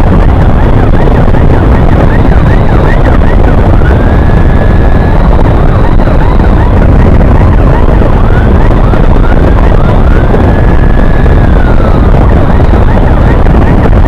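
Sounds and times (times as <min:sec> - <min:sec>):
electronic emergency siren: 0:00.0 - 0:14.0
heavy wind: 0:00.0 - 0:14.0
motorcycle road rumble: 0:00.0 - 0:14.0.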